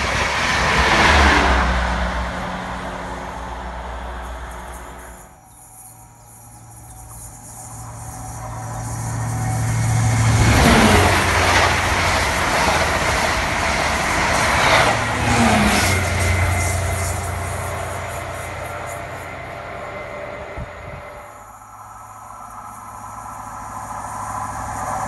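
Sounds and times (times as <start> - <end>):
diesel train engine hum: 0.0 - 25.0
rush of train wheels and air: 0.0 - 25.0.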